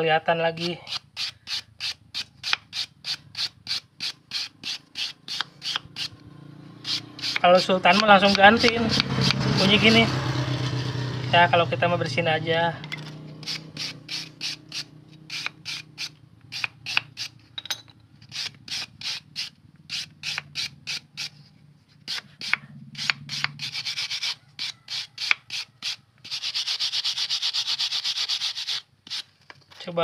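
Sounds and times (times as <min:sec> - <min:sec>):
abrasive tool scraping brake pad: 0:00.5 - 0:10.1, 0:12.8 - 0:17.6, 0:18.2 - 0:30.0.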